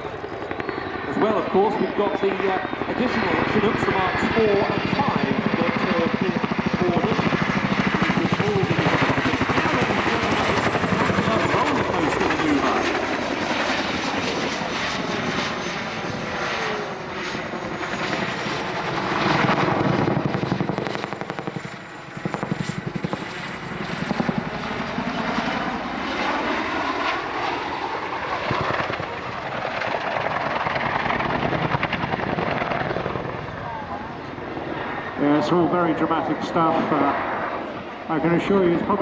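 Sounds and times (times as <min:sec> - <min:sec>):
helicopter engine whine: 0:00.0 - 0:39.0
helicopter rotor blades beating: 0:00.0 - 0:39.0.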